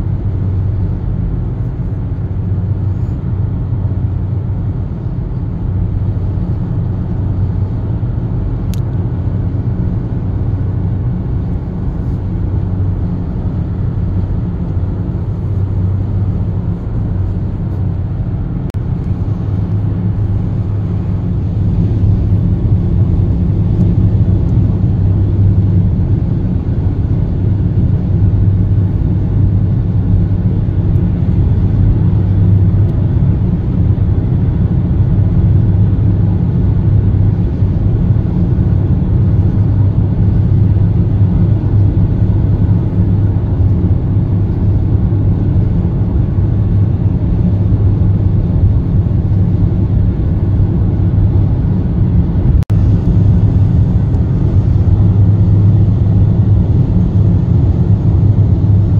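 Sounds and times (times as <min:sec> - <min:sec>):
car cabin road noise: 0:00.0 - 0:58.9.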